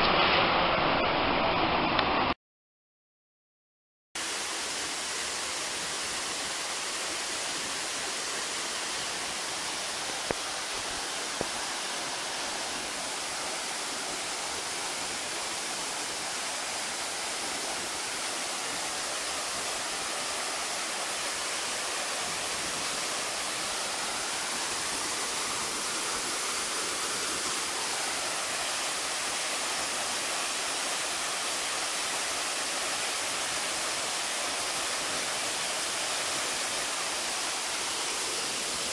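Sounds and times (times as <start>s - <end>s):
flowing water rushing: 4.2s - 38.9s.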